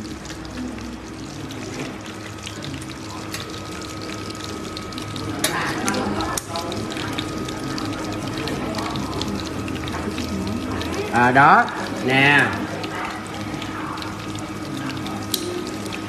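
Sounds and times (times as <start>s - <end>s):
oil crackling and popping: 0.0s - 16.0s.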